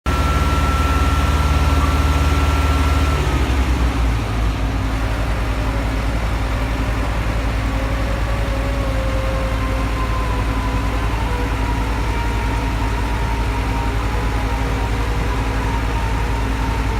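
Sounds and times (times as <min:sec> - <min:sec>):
large engine running: 0:00.0 - 0:16.9
high whine: 0:00.1 - 0:16.9.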